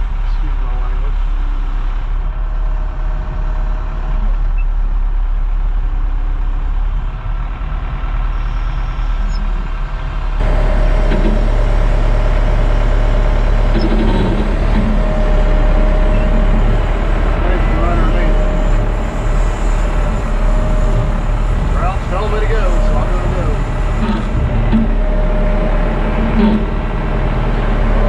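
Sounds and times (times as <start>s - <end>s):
diesel engine droning with whine: 0.0s - 28.0s.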